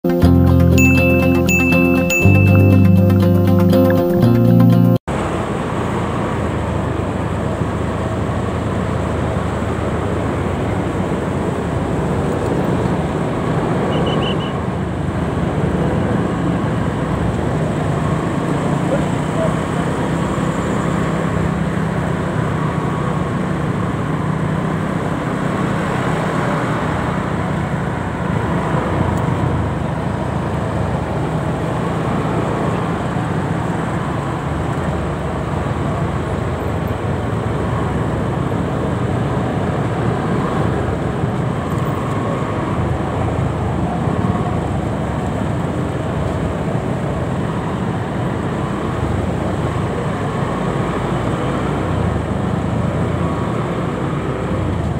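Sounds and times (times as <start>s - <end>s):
road noise: 0.0s - 54.9s
traffic engines running: 0.0s - 54.9s.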